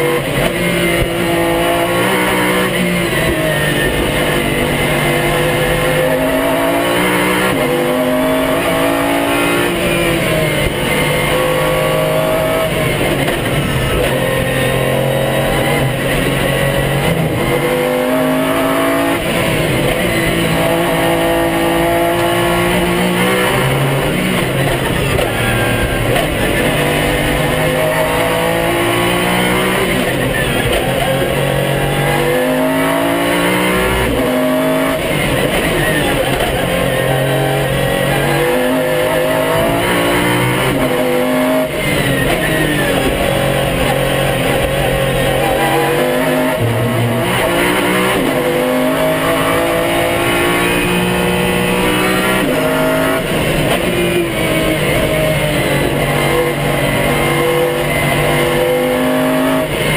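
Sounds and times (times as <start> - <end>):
car engine accelerating hard: 0.0 - 59.9.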